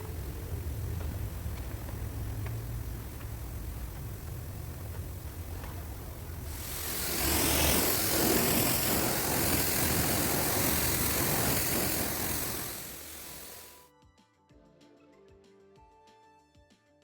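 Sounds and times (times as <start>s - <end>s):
loud rushing hiss: 0.0s - 13.8s
low machine hum: 0.0s - 13.8s.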